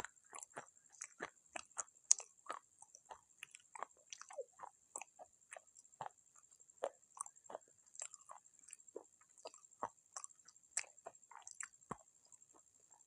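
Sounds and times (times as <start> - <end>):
chewing and crunching clay pieces: 0.0 - 13.0.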